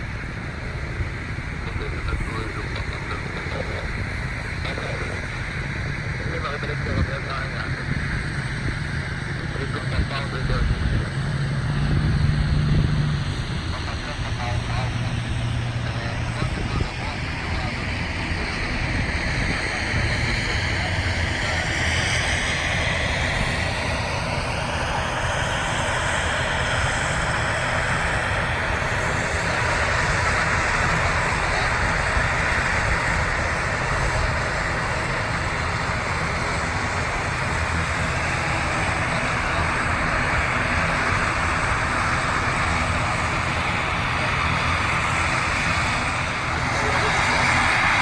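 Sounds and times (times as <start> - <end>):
jet airliner passing by: 0.0 - 48.0.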